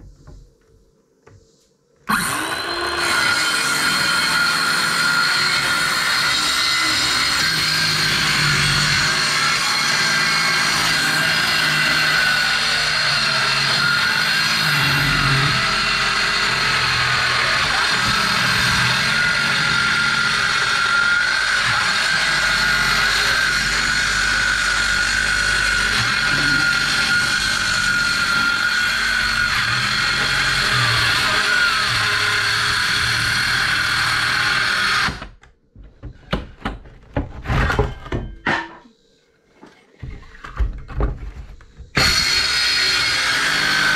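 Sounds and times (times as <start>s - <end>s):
power saw whining: 2.1s - 35.4s, 41.9s - 43.9s.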